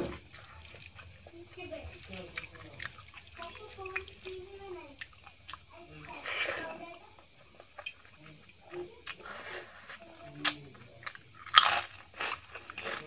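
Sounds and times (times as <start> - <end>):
chewing with crisp crunches: 0.0 - 13.0.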